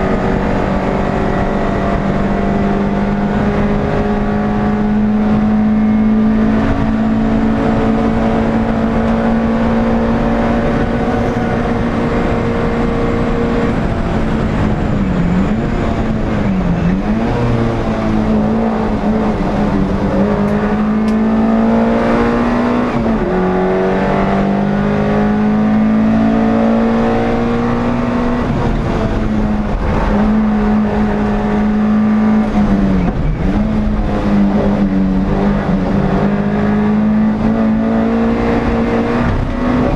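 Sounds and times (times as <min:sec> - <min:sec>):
other race car engines passing: 0:00.0 - 0:39.9
race car engine at high revs: 0:00.0 - 0:39.9.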